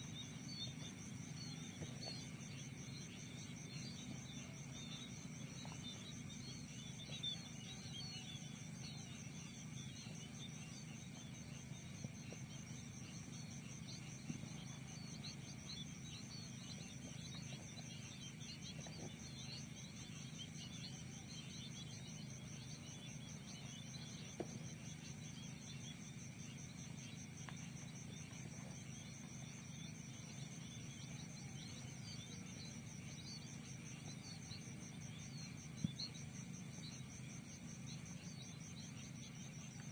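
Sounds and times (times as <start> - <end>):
low steady hum: 0.0 - 39.9
pulsing insect trill: 0.0 - 39.9.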